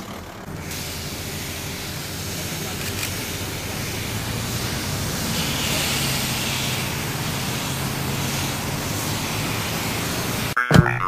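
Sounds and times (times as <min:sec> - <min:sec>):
low engine hum: 0:00.0 - 0:10.6
fire hose water jet hissing: 0:00.5 - 0:10.6.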